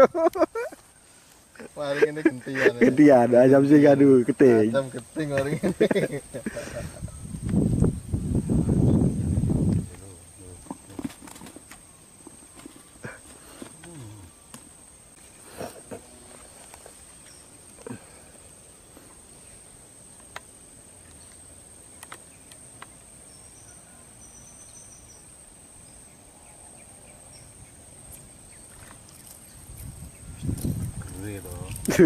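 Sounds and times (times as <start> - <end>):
faint outdoor ambience: 0.0 - 32.0.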